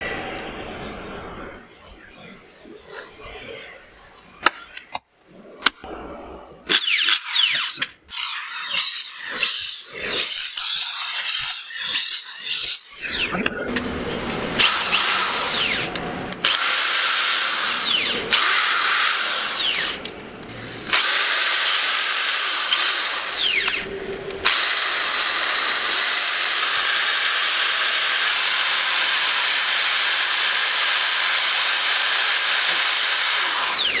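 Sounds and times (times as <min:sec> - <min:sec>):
hammer drill motor whining: 0:06.7 - 0:34.0.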